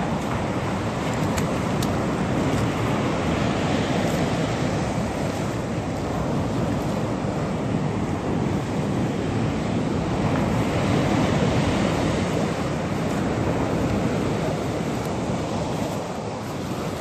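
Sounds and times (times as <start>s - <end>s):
surf washing onto beach: 0.0s - 17.0s
wind rumbling on microphone: 0.0s - 17.0s.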